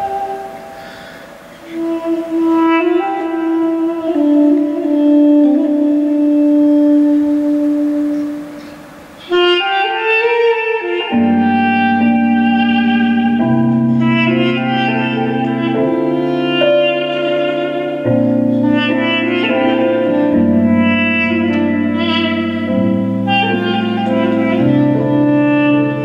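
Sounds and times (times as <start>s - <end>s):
duduk melody: 0.0s - 26.0s
keyboard chords with bass: 0.0s - 26.0s.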